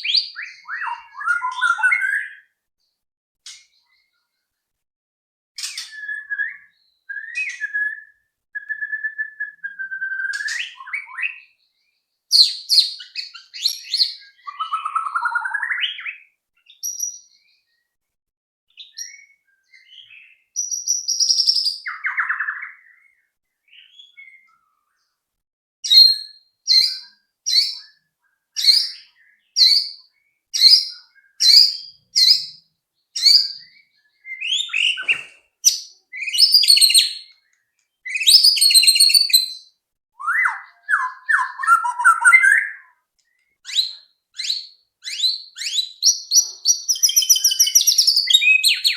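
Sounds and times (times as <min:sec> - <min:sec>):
bird singing whistled phrases: 0:00.0 - 0:02.5, 0:05.6 - 0:11.6, 0:12.3 - 0:17.6, 0:18.7 - 0:25.0, 0:25.8 - 0:28.0, 0:28.6 - 0:32.6, 0:33.2 - 0:48.9.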